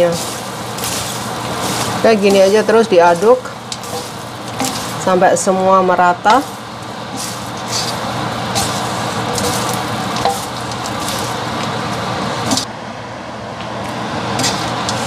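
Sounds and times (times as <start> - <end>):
popcorn stirred in metal pan: 0.0 - 12.6, 14.4 - 15.0.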